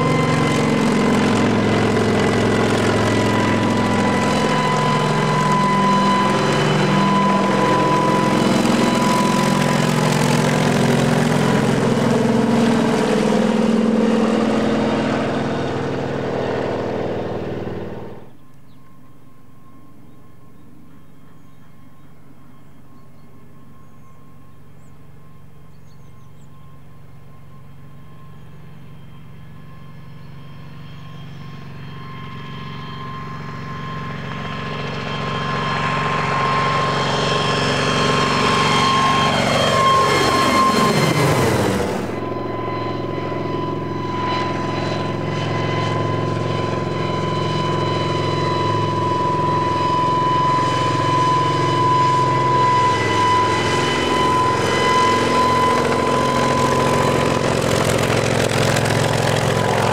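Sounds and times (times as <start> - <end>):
helicopter engines and rotors: 0.0 - 59.9.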